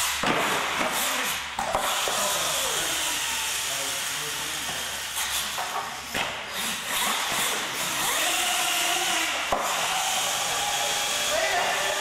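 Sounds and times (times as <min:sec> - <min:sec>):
toy truck motors whining: 0:01.0 - 0:12.0.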